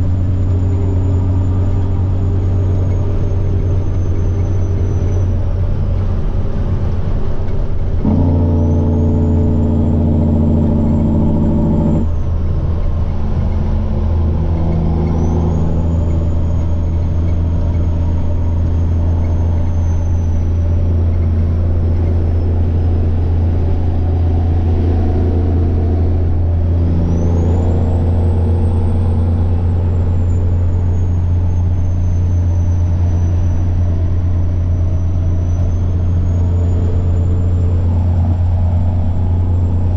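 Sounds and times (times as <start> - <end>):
diesel truck engine droning: 0.0 - 39.9
turbocharger whining: 0.0 - 39.9.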